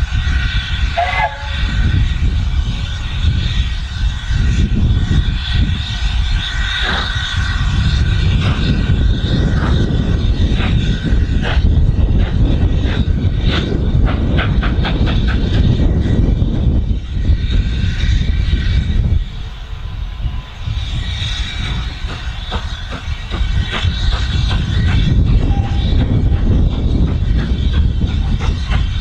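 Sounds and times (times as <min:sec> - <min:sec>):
low rumble: 0:00.0 - 0:29.0
steam locomotive exhaust beats: 0:00.0 - 0:29.0.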